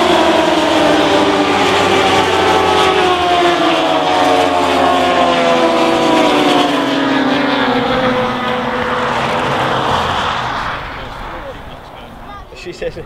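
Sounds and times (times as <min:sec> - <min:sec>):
race motorcycles at high revs: 0:00.0 - 0:13.0.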